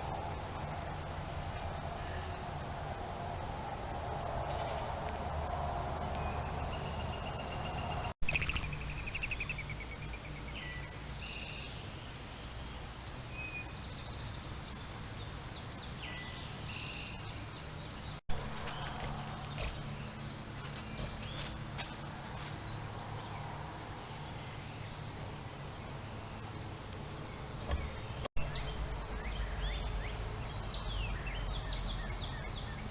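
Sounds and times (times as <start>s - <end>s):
steady background hiss: 0.0s - 32.9s
birds chirping and singing: 5.9s - 25.1s, 25.8s - 32.9s.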